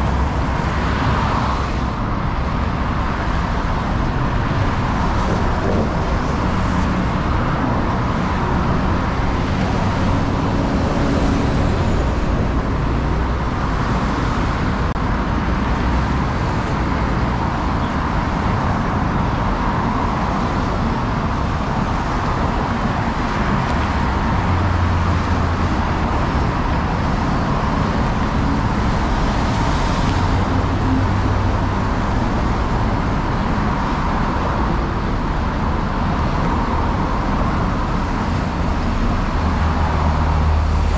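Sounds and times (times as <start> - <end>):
large vehicle engine hum: 0.0 - 40.9
road traffic passing: 0.0 - 40.9.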